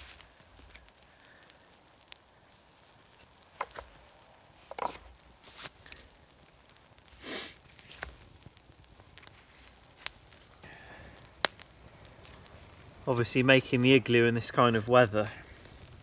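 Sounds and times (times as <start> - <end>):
campfire twigs crackling: 0.0 - 16.0
sharp snaps and pops: 0.0 - 16.0.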